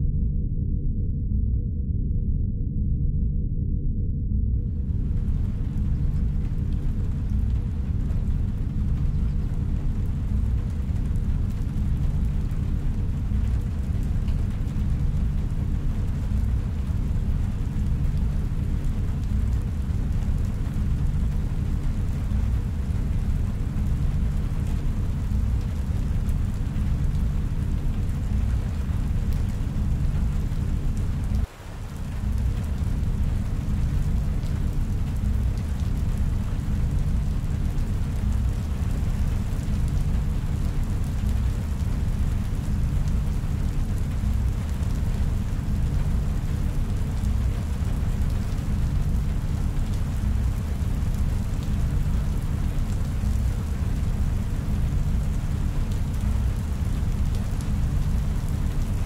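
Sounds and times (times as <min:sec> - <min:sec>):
deep rumbling drone: 0:00.0 - 0:59.0
faint hum: 0:00.0 - 0:59.0.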